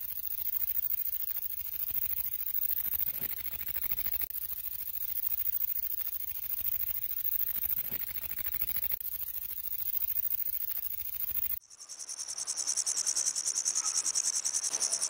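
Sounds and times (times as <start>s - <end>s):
grasshopper stridulating: 0.0s - 15.0s.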